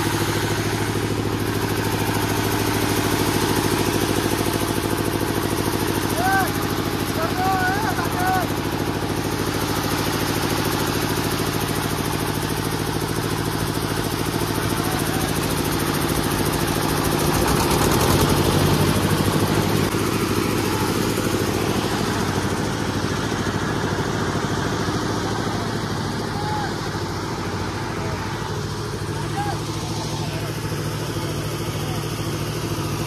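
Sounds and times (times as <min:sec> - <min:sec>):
diesel generator engine chugging: 0:00.0 - 0:33.0.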